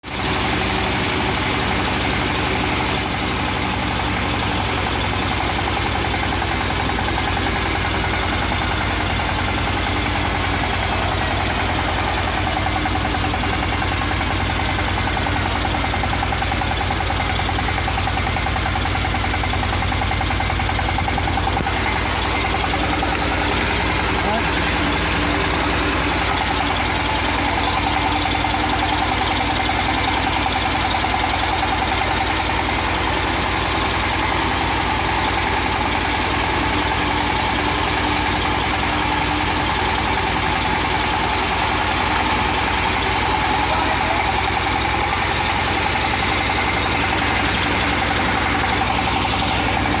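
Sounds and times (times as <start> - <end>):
sawmill engine running: 0.0 - 50.0.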